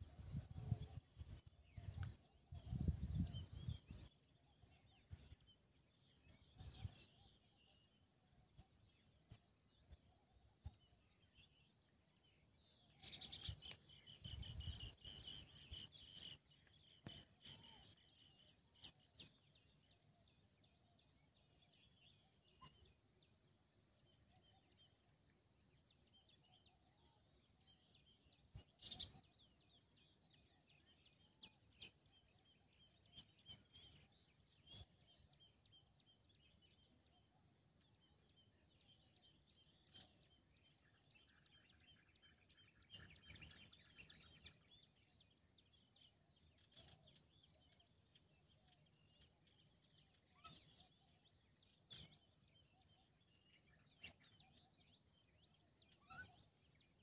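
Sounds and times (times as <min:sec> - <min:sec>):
faint bird chirping: 0:00.0 - 0:57.0.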